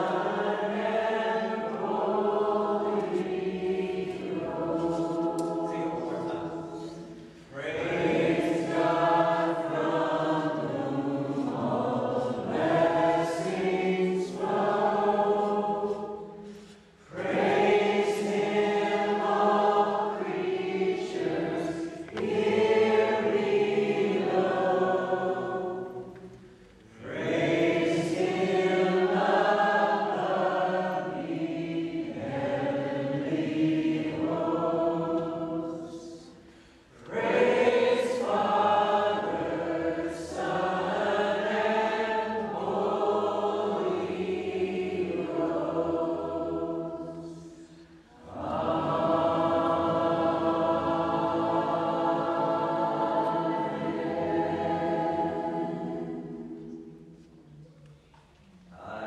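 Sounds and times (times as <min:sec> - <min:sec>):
group singing a worship song: 0:00.0 - 0:57.5, 0:58.2 - 0:59.0.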